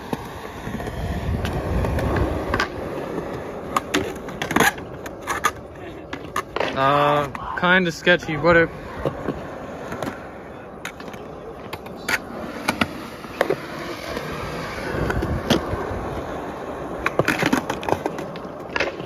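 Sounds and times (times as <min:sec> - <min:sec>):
skateboard clacking on ground: 0:00.0 - 0:19.0
skateboard wheels rolling on concrete: 0:00.0 - 0:19.0.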